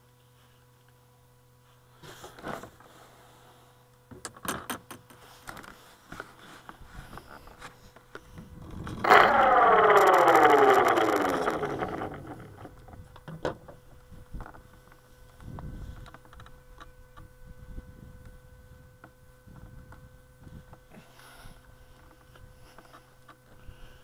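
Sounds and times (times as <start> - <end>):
electric motor and propeller whine: 4.8 - 24.0.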